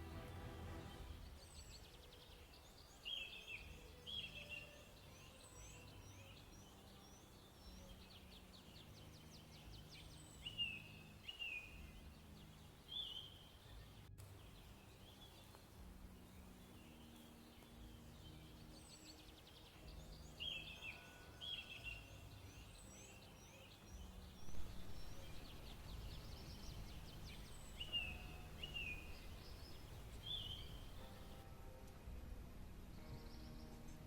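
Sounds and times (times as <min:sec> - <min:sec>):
wild birds chirping: 0:00.0 - 0:31.4
faint outdoor background: 0:00.0 - 0:34.0.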